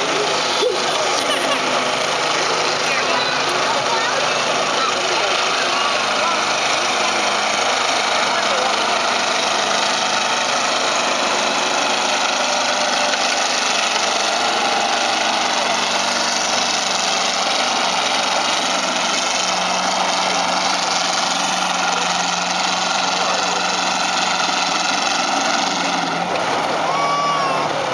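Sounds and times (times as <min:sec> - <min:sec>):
tractor engine running under load: 0:00.0 - 0:27.9.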